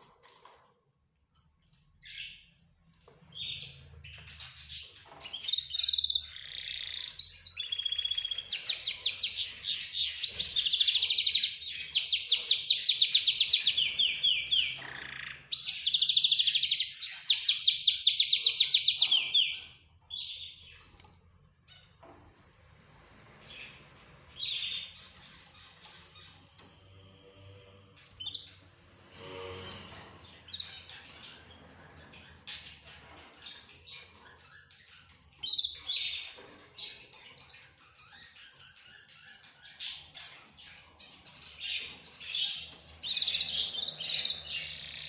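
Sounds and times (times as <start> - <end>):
cage birds chirping: 0.0 - 45.0.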